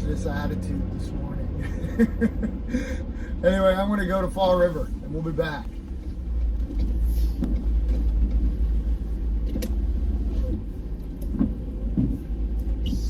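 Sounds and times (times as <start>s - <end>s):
vehicle rumble from inside cab: 0.0s - 13.0s.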